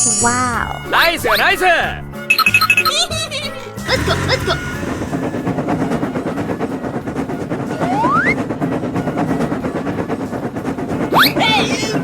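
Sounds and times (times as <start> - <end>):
rapid rattle of train wheels: 0.6 - 12.0.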